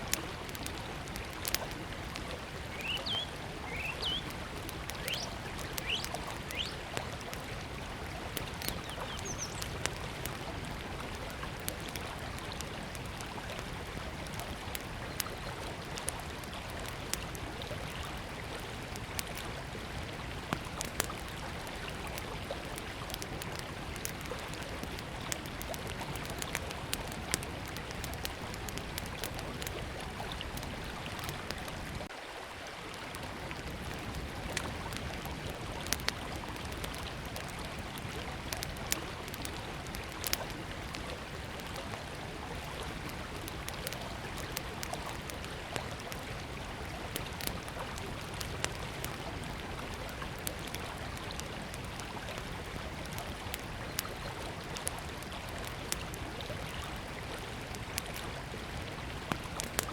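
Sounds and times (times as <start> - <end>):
wood fire crackling: 0.0 - 32.1, 33.0 - 59.9.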